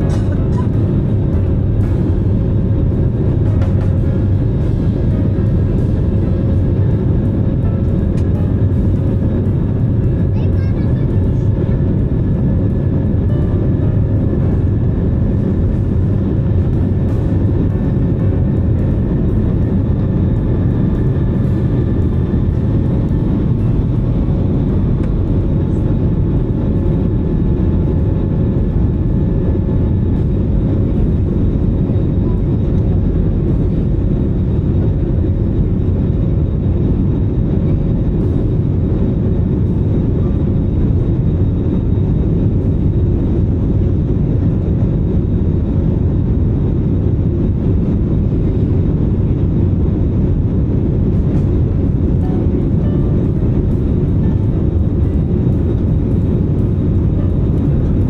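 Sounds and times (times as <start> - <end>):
airliner cabin roar in flight: 0.0 - 58.0.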